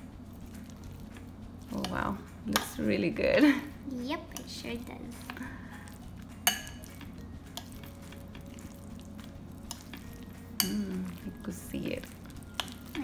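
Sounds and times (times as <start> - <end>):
spoon mashing wet food: 0.0 - 3.1, 4.3 - 13.0.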